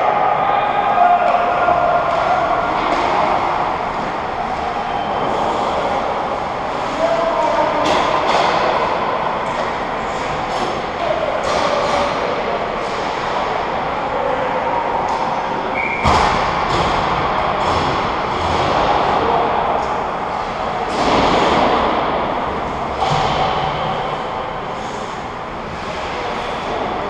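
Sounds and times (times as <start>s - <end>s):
skating and hockey play sounds: 0.0s - 27.0s.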